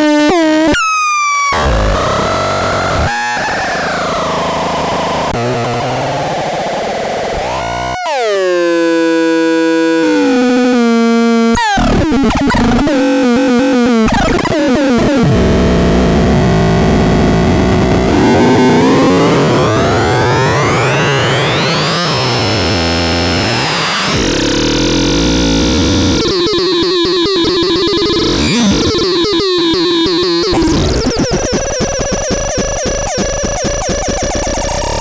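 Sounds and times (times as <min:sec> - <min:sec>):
harsh synthesizer tones: 0:01.5 - 0:08.5, 0:11.6 - 0:35.0.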